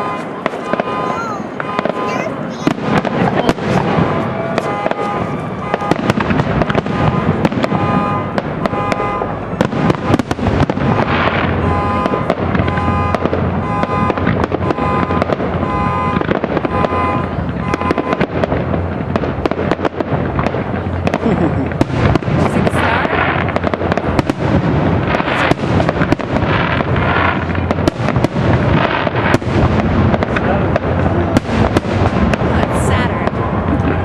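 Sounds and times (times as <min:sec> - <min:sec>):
continuous low rumble: 0:00.0 - 0:34.0
fireworks bursting bangs: 0:00.0 - 0:34.0.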